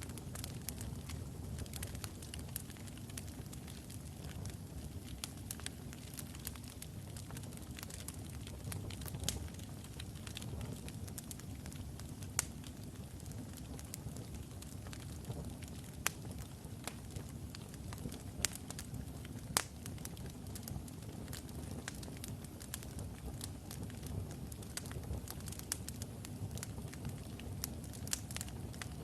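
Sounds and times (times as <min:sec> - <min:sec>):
burning logs popping: 0:00.0 - 0:29.0
fire crackling: 0:00.0 - 0:29.0
flames rumbling: 0:00.0 - 0:29.0.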